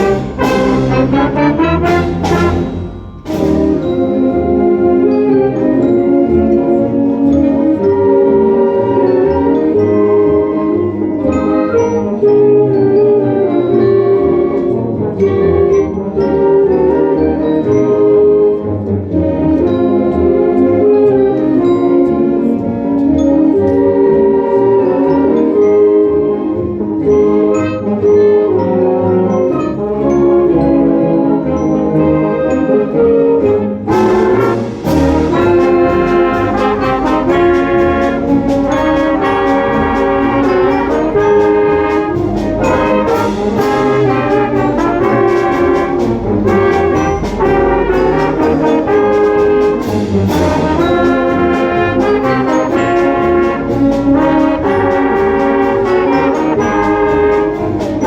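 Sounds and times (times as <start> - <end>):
brass ensemble playing chords: 0.0 - 58.0.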